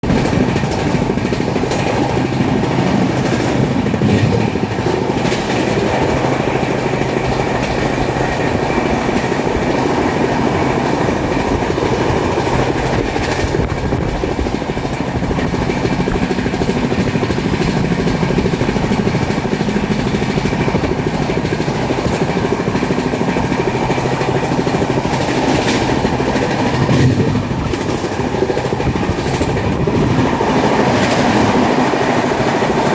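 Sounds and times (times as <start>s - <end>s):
train passing at speed: 0.0s - 32.9s
train wheels clattering: 0.0s - 32.9s.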